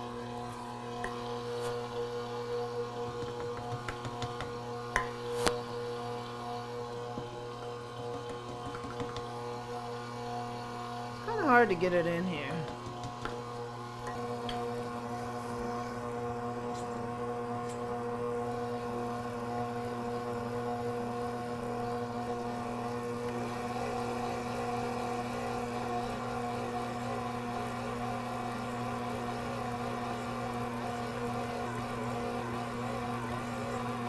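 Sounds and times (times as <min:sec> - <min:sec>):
stand mixer motor humming: 0:00.0 - 0:34.0.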